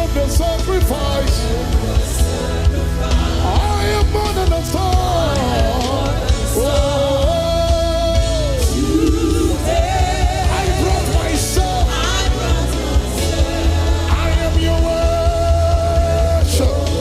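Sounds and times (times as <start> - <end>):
gospel band playing: 0.0 - 17.0
voices singing: 0.0 - 17.0.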